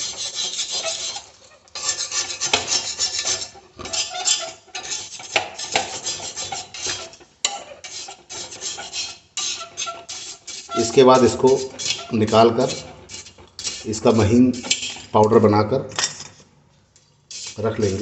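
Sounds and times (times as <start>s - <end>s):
utensil scraping iron pan: 0.0s - 15.4s, 17.3s - 18.0s.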